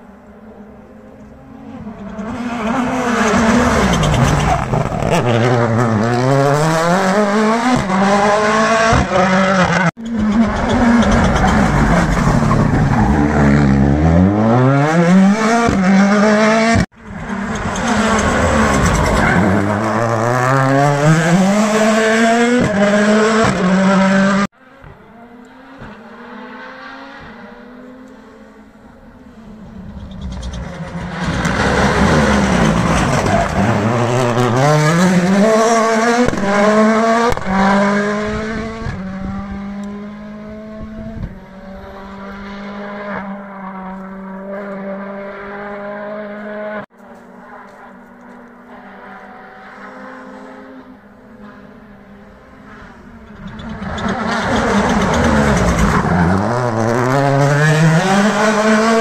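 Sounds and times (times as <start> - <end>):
rally car engines passing: 0.0 - 59.0.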